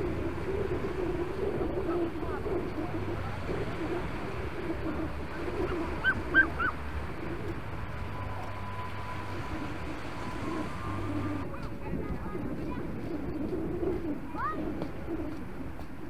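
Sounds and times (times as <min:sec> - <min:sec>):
bird calls: 0:00.0 - 0:11.5, 0:12.3 - 0:15.8
wind: 0:00.0 - 0:16.0.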